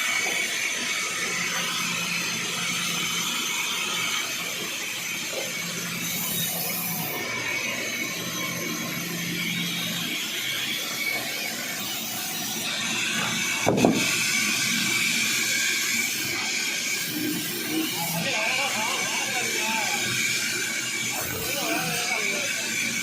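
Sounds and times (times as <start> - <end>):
sawmill machinery hiss and hum: 0.0 - 23.0.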